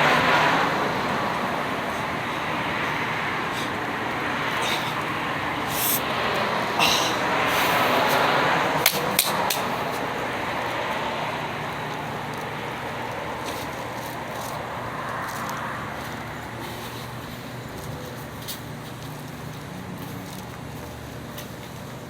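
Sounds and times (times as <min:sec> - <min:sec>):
road traffic: 0:00.0 - 0:22.0
vehicle passing: 0:00.0 - 0:22.0.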